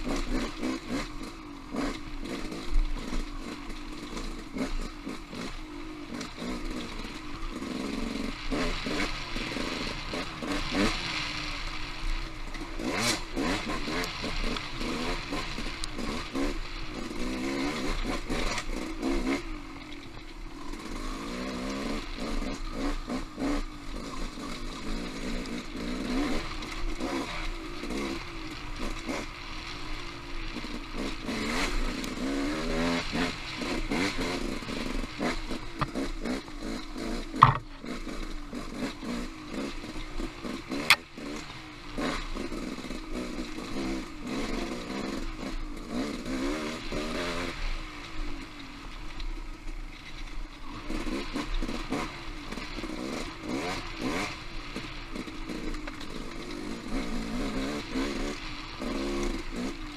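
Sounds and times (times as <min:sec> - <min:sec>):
off-road motorcycle engine: 0:00.0 - 0:59.9.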